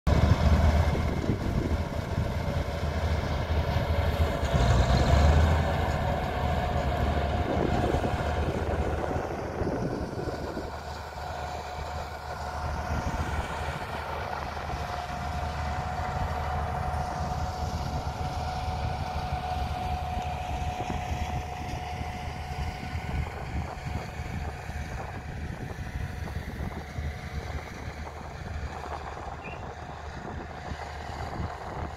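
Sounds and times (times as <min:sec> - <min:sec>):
bulldozer diesel engine under load: 0:00.1 - 0:31.9.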